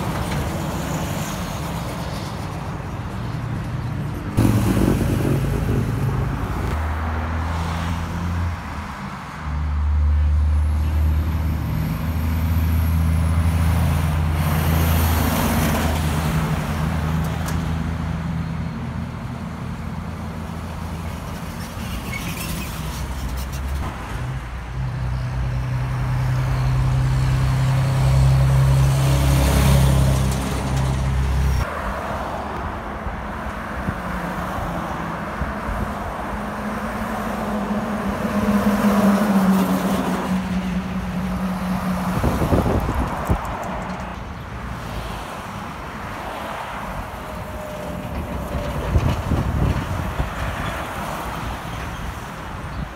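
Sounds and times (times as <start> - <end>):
diesel vehicles passing: 0.0 - 52.9.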